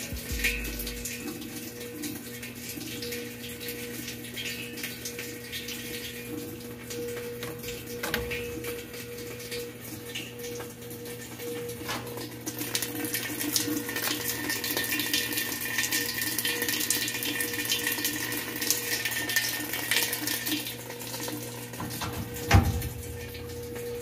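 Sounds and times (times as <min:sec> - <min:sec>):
water pouring into washing machine: 0:00.0 - 0:24.0.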